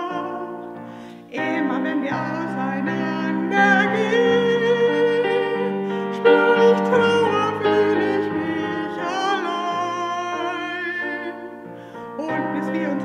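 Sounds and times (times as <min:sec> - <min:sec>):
woman singing with vibrato: 0:00.0 - 0:00.6, 0:01.3 - 0:13.0
digital piano: 0:00.0 - 0:13.0.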